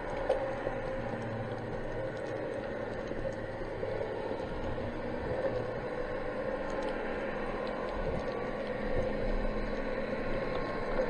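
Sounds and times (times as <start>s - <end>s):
faint clicks: 0.0s - 11.0s.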